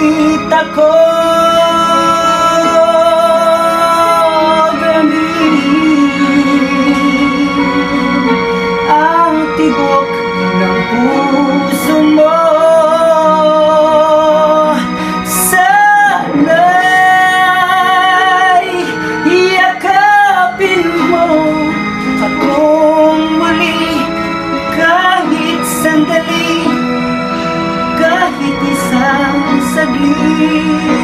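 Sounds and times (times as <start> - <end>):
karaoke backing track: 0.0 - 31.0
man singing: 0.0 - 31.0.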